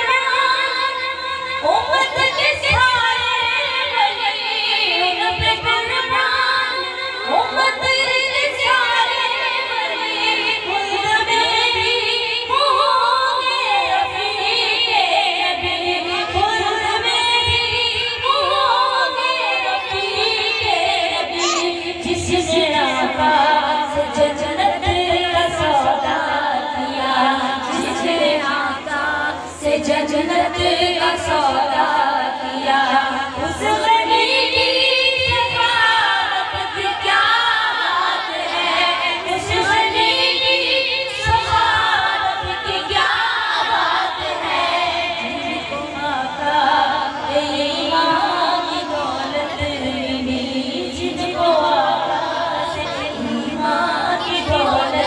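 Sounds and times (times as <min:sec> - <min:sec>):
woman singing devotional song: 0:00.0 - 0:55.0.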